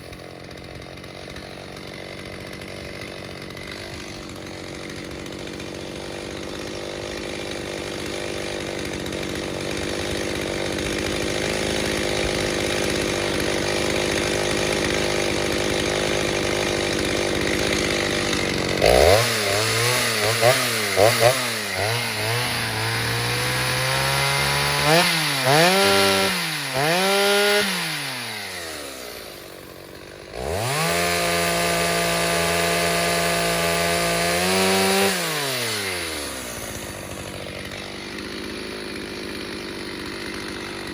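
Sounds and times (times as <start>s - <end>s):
chainsaw cutting wood: 0.0s - 40.9s
chainsaw revving: 0.0s - 40.9s.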